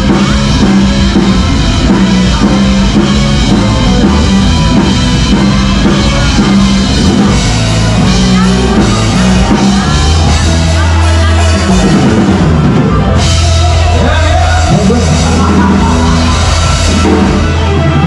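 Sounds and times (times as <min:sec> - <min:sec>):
drum kit beat: 0:00.0 - 0:18.0
rock band playing: 0:00.0 - 0:18.0
sustained bass notes: 0:00.0 - 0:18.0.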